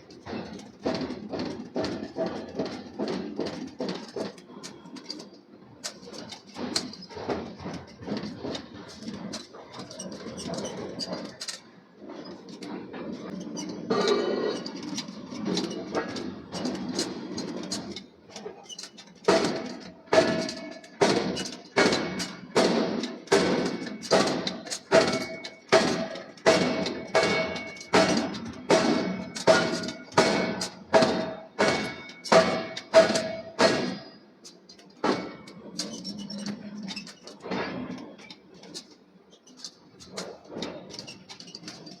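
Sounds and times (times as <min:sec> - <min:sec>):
knocking and scraping: 0:00.0 - 0:42.0.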